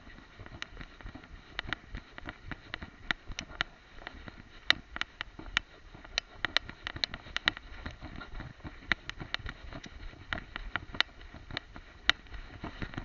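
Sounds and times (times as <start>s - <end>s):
camera clicks and rattles: 0.4s - 13.0s.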